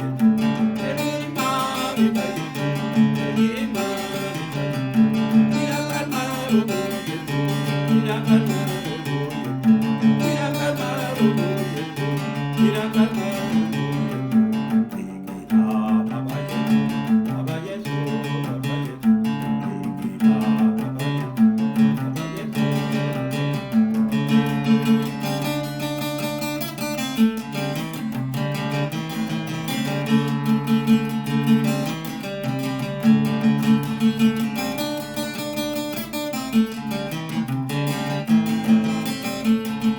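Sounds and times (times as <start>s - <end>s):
plucked guitar music: 0.0s - 39.9s.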